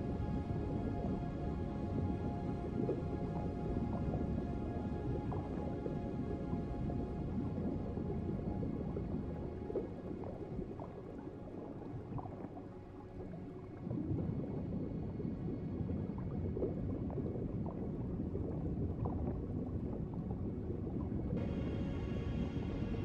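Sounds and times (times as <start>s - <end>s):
water bubbling and gurgling: 0.0s - 23.0s.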